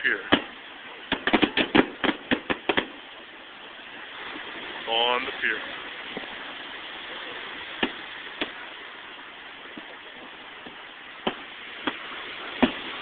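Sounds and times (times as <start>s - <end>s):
fireworks bangs: 0.0s - 13.0s
steady hiss: 0.0s - 13.0s.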